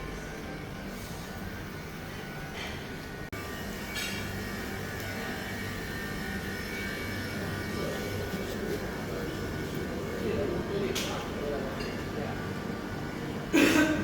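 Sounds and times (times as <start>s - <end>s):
mechanical hum with rushing noise: 0.0s - 14.0s.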